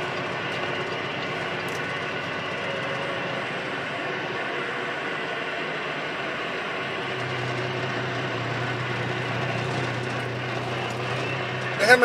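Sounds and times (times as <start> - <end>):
diesel engine running: 0.0 - 12.0
low steady drone: 0.0 - 12.0.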